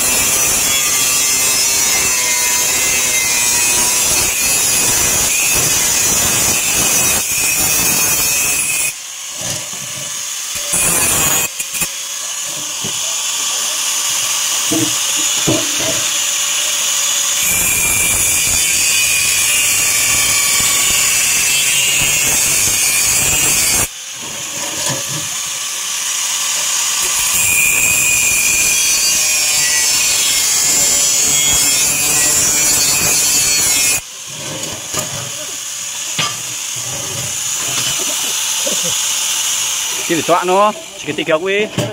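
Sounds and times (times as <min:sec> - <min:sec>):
power tool cutting sheet metal: 0:00.0 - 0:41.9.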